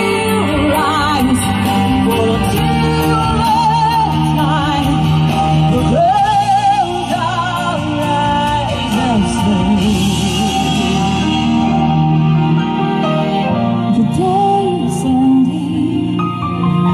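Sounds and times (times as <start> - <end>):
slow ballad music: 0.0 - 16.9.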